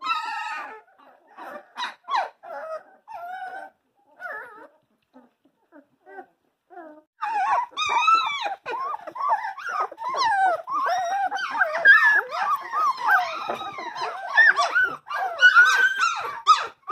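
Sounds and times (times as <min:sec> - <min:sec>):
puppies whining and squealing: 0:00.0 - 0:16.9.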